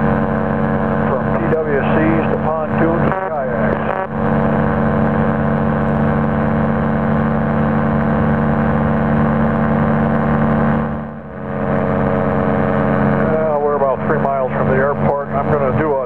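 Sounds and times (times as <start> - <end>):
light aircraft engine in flight: 0.0 - 16.0.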